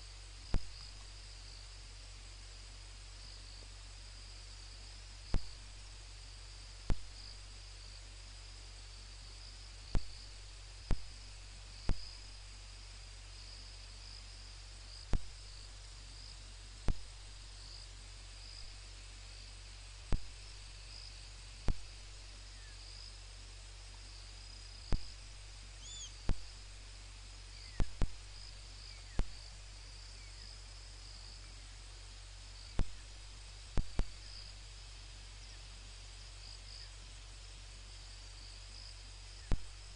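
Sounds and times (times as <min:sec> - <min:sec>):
crickets chirring: 0:00.0 - 0:39.9
steady low hum: 0:00.0 - 0:39.9.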